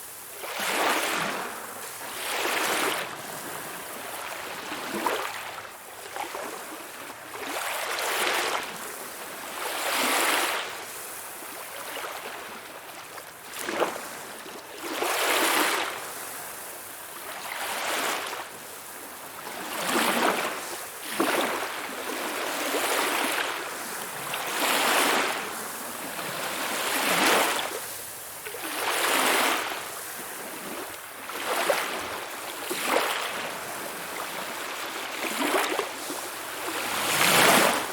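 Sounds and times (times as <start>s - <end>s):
small waves splashing: 0.0s - 37.9s.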